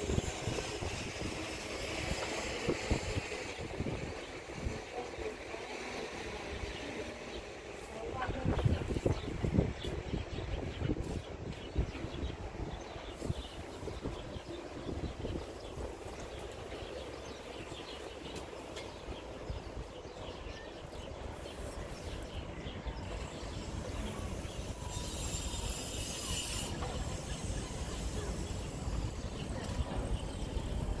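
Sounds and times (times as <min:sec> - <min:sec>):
distant traffic: 0:00.0 - 0:31.0
wind on microphone: 0:00.0 - 0:31.0.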